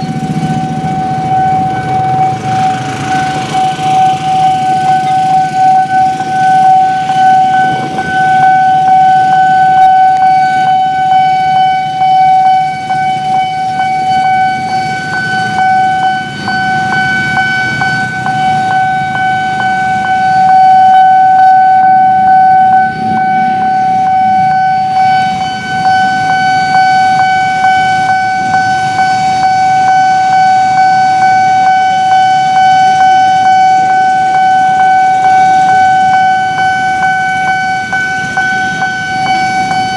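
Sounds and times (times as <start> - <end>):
level crossing alarm tone: 0.0 - 39.9
passing train rumble: 0.0 - 39.9
wheels ticking on rails: 0.0 - 39.9.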